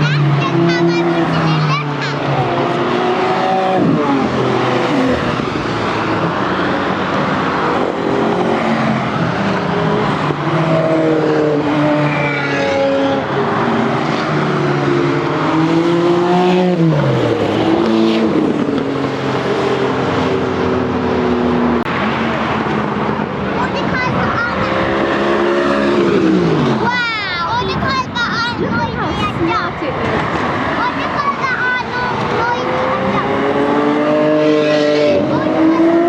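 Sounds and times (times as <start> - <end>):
car engine passing by: 0.0 - 27.3, 29.2 - 36.0
supercar engines revving: 0.0 - 36.0.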